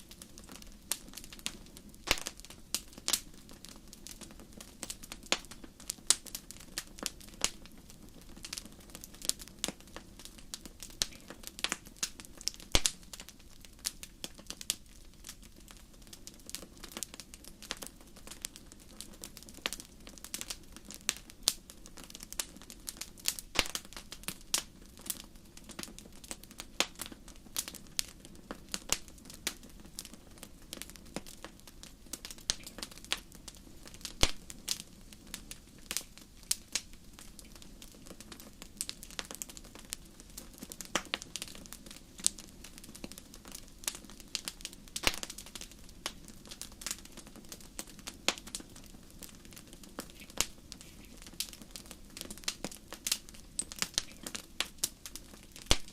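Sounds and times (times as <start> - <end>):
campfire crackling and popping: 0.0 - 55.9
low rumble of flames: 0.0 - 55.9.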